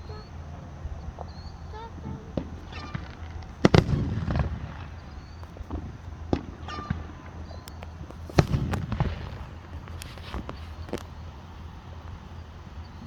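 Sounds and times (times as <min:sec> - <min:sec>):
fireworks bangs and pops: 0:01.0 - 0:13.0.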